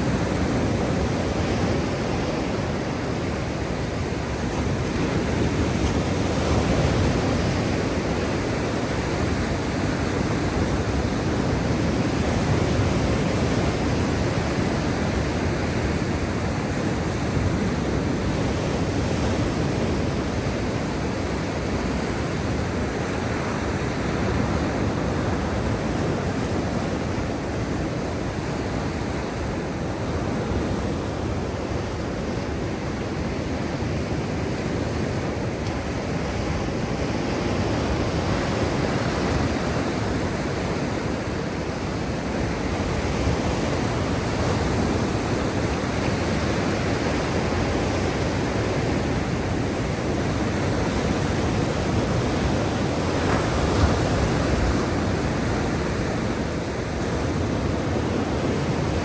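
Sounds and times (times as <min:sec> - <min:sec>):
waves washing ashore: 0:00.0 - 0:59.0.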